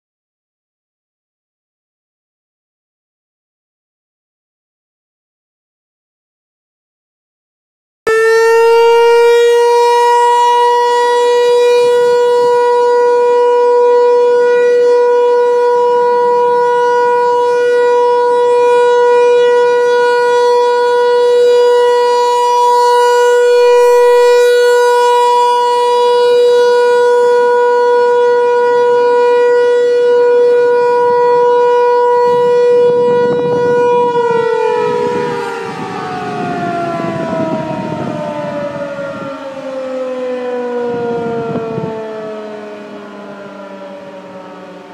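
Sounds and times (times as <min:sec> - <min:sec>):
warning siren steady tone: 0:08.1 - 0:44.9.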